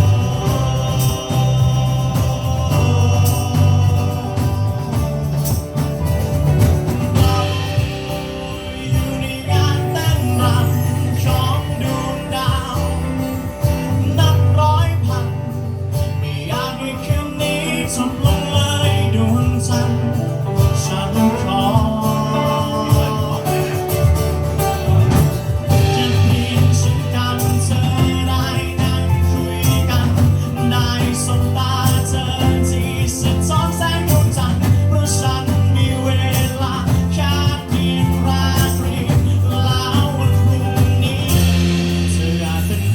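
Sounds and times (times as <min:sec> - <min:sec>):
bass line: 0:00.0 - 0:42.9
live band playing: 0:00.0 - 0:42.9
percussion: 0:00.0 - 0:42.9
person singing: 0:00.0 - 0:42.9.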